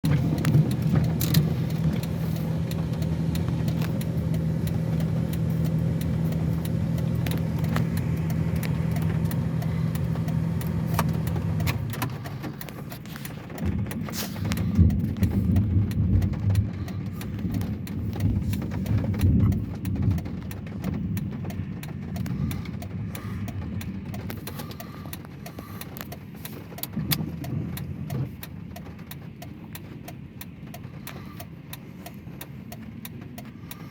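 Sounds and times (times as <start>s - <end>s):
car engine and road hum: 0.0s - 33.9s
rattles and clicks: 0.0s - 33.9s.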